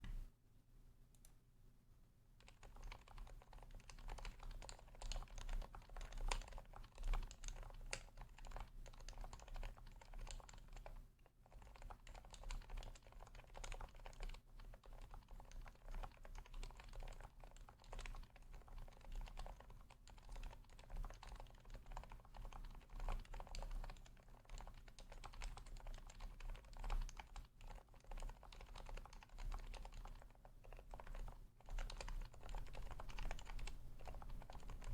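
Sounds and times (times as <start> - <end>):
muted keyboard typing: 2.4 - 34.9.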